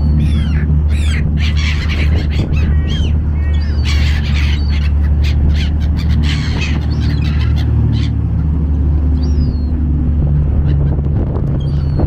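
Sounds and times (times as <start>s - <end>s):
ferry engine drone: 0.0s - 12.0s
gulls squawking and crying: 0.0s - 12.0s.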